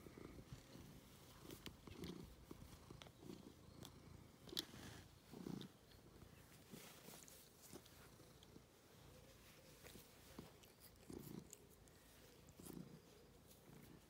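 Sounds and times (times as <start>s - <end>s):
cat purring softly: 0.0s - 14.0s.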